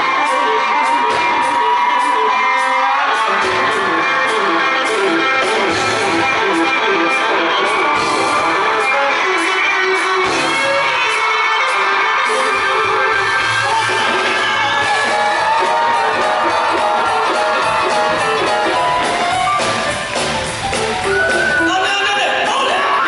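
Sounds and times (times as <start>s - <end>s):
electric guitar bending notes: 0.0s - 21.7s
drums: 0.0s - 23.0s
live rock band playing: 0.0s - 23.0s.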